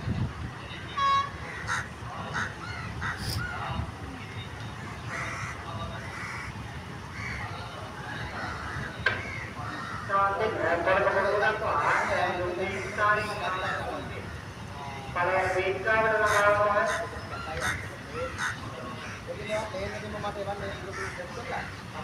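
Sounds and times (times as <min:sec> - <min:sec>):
low street background: 0:00.0 - 0:22.0
birds calling: 0:01.3 - 0:14.8, 0:15.4 - 0:22.0.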